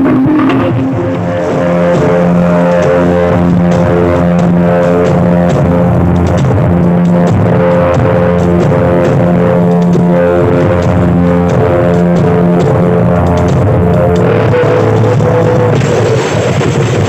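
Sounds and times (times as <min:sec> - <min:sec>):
loud music with droning bass: 0:00.0 - 0:17.0.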